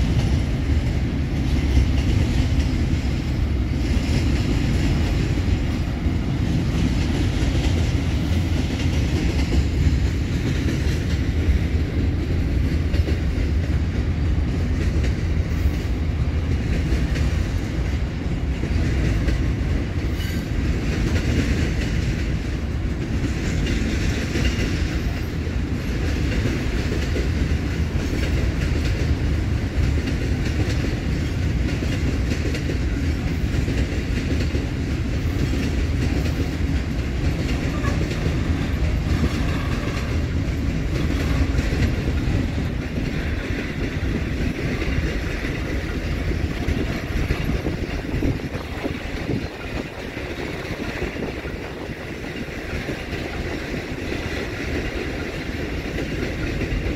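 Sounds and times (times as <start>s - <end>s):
freight train wheels rumbling: 0.0s - 56.9s.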